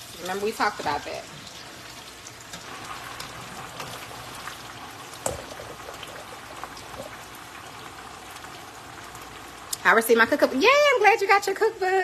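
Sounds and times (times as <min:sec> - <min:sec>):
oil bubbling and sizzling: 0:00.0 - 0:12.0.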